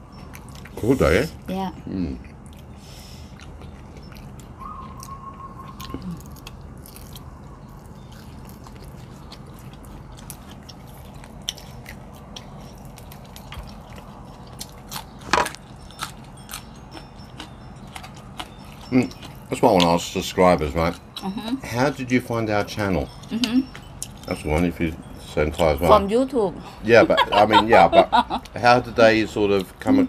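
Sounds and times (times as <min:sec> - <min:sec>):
people chewing food: 0:00.0 - 0:30.0.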